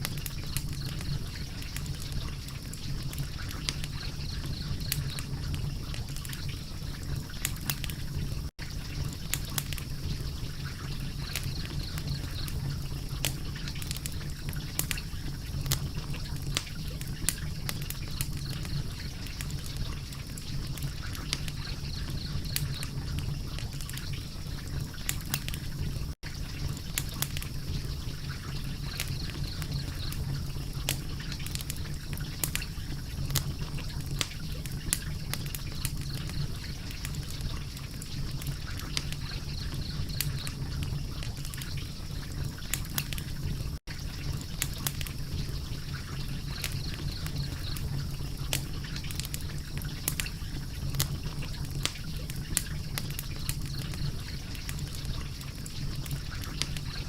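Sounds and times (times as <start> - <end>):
low rumble and hiss: 0.0 - 57.0
wood fire crackling and popping: 0.0 - 57.0.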